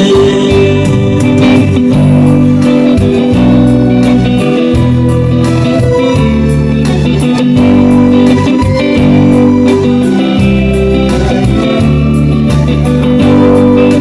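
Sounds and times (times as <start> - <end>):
bass guitar: 0.0 - 14.0
electric guitar: 0.0 - 14.0
steady drum beat: 0.0 - 14.0.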